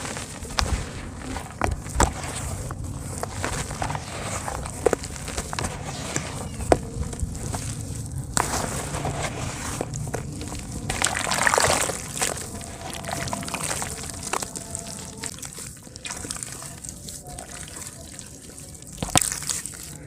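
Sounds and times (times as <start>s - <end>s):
dirt crumbling into water: 0.0s - 20.0s.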